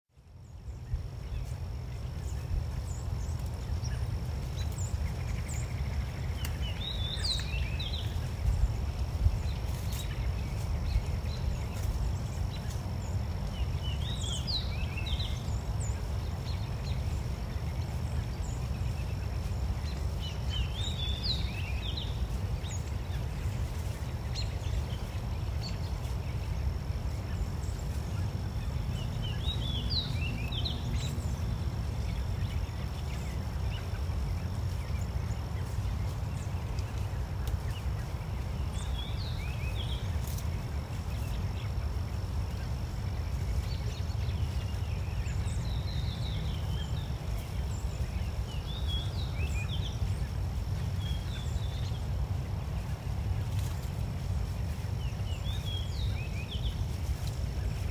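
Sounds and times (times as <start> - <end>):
small bird chirping: 0.1 - 57.9.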